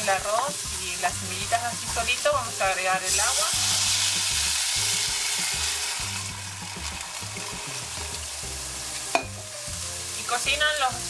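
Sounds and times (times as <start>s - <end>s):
water hissing on hot pan: 0.0s - 11.0s.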